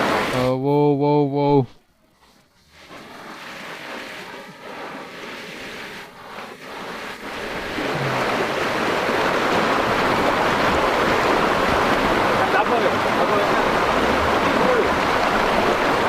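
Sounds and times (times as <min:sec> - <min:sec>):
river water rushing: 0:00.0 - 0:00.4, 0:02.6 - 0:16.0.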